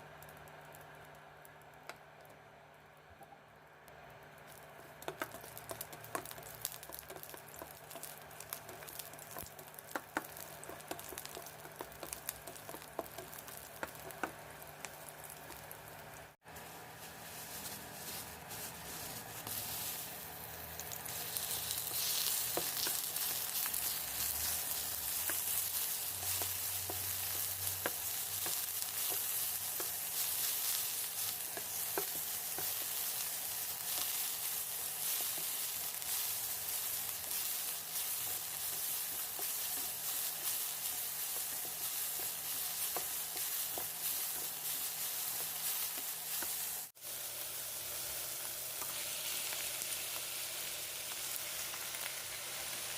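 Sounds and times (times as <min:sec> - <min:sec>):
stir-fry sizzling in pan: 0:04.5 - 0:52.9.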